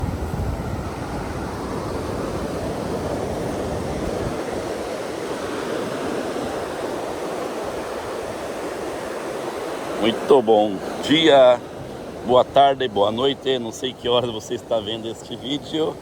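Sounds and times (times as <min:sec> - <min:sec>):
ocean surf on beach: 0:00.0 - 0:16.0.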